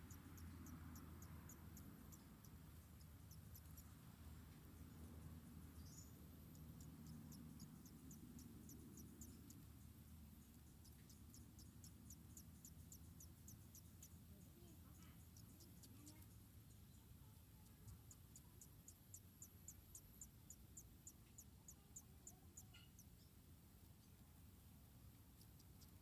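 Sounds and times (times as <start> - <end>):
insect chirping: 0.0 - 26.0
low background rumble: 0.0 - 26.0.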